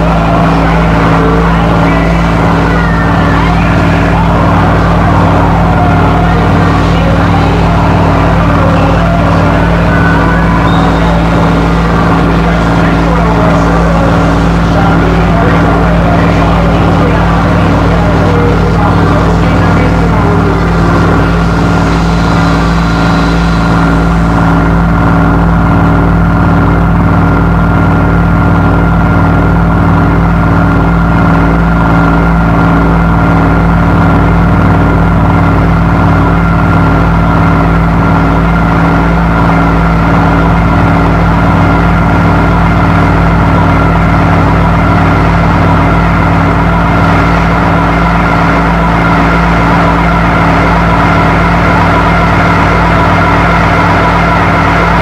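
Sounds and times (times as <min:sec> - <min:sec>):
dense noisy layer: 0:00.0 - 0:55.0
electronic drone with deep hum: 0:00.0 - 0:55.0.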